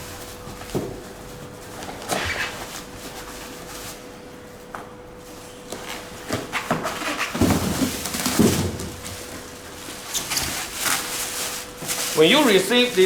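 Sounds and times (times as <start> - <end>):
foam and cardboard scraping: 0.0 - 4.1, 5.8 - 13.0.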